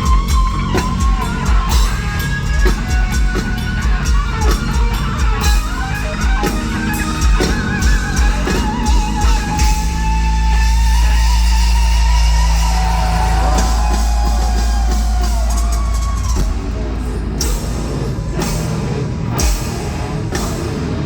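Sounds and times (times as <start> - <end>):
distorted lead electric guitar: 0.0 - 21.0
heavy metal band playing live: 0.0 - 21.0.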